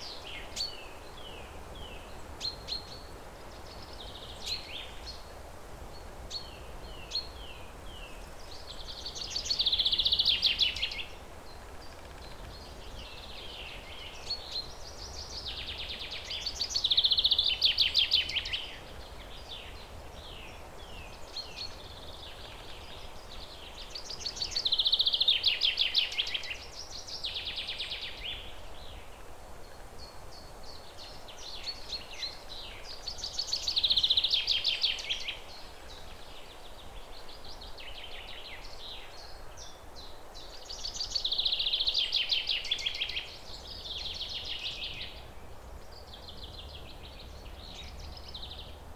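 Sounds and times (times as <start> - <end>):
low background noise: 0.0 - 48.9.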